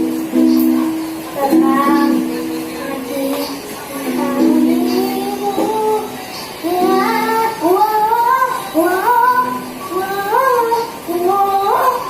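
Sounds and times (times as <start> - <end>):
child singing: 0.4 - 12.0.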